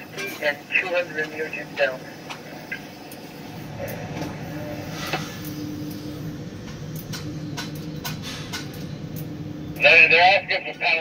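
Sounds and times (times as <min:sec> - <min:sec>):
crane machinery hum: 0:00.0 - 0:11.0.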